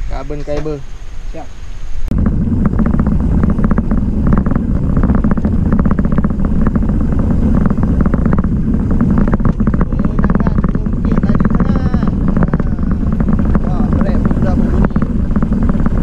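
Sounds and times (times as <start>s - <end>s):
road rumble: 0.0s - 16.0s
wind buffeting: 0.0s - 16.0s
bike clattering over bumps: 2.1s - 16.0s.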